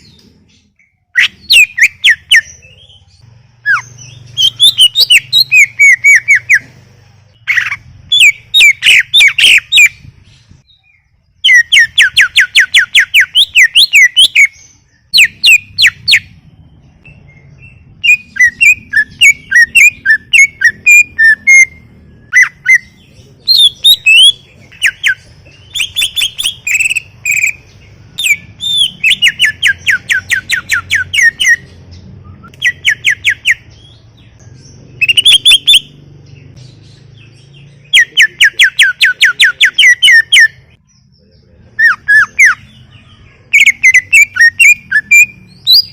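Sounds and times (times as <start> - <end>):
bird trilling and whistling song: 0.0 - 45.9.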